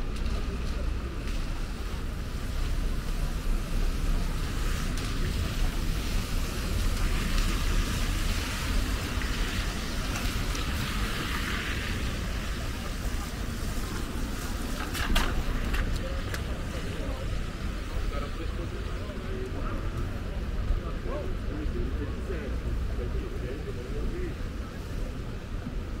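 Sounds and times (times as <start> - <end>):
rain and tyres on wet asphalt: 0.0 - 26.0.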